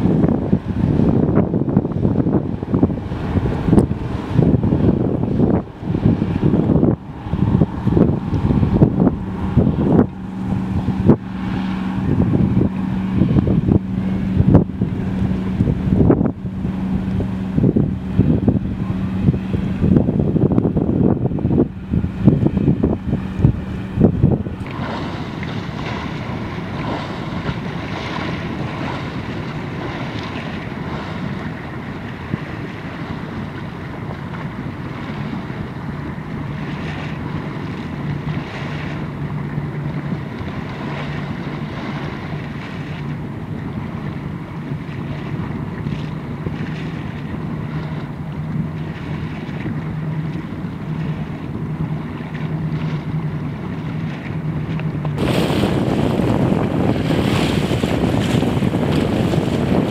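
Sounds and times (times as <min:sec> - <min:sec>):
steady low hum: 0:00.0 - 0:59.9
waves lapping and splashing: 0:00.0 - 0:59.9
wind on microphone: 0:00.0 - 0:59.9.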